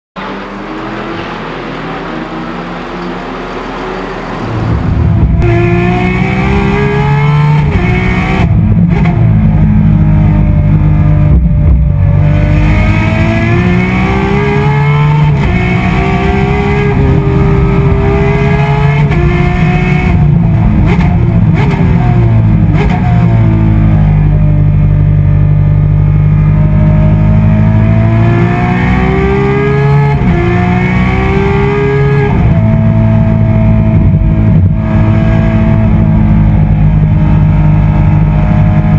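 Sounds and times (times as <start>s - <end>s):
race car engine revving: 0.2s - 38.9s.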